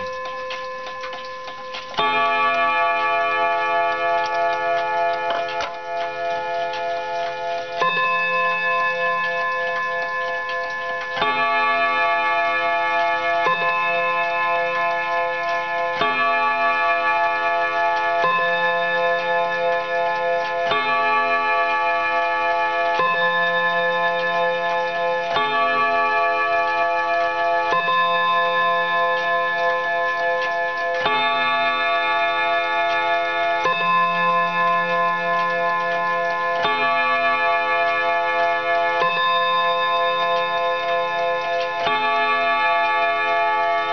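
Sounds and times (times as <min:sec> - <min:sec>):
clock ticking: 0:00.0 - 0:43.9
mantel clock striking on gong: 0:00.0 - 0:43.9.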